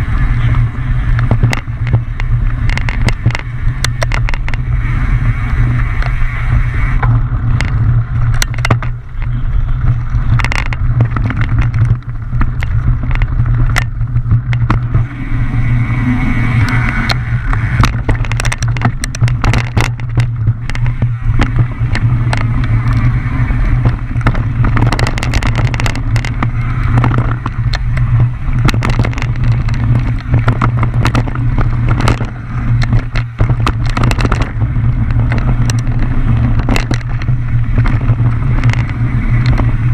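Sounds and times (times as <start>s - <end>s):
bike frame and chain rattling: 0.0s - 39.9s
wind rumbling on microphone: 0.0s - 39.9s.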